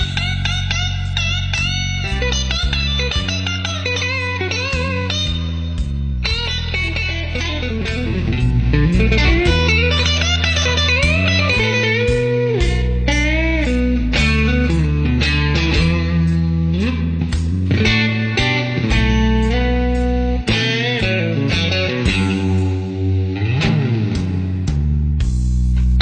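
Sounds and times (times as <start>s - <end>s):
lead guitar with bending notes: 0.0s - 26.0s
low bass notes: 0.0s - 26.0s.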